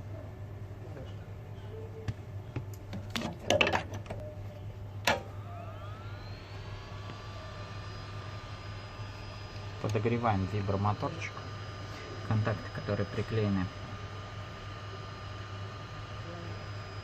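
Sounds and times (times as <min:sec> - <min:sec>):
hot-air gun blower whine: 0:02.3 - 0:17.0.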